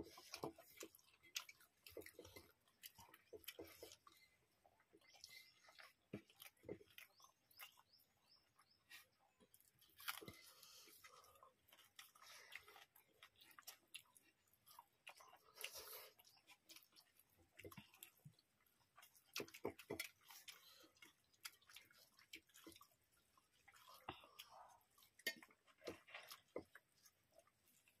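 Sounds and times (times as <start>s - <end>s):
faint chewing and mouth smacks: 0.0s - 28.0s.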